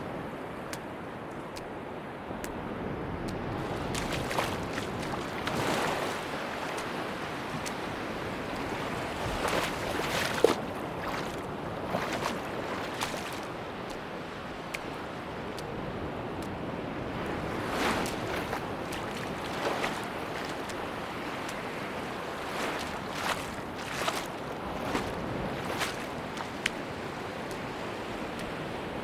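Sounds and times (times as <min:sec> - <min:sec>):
sea surf washing onto beach: 0:00.0 - 0:29.0.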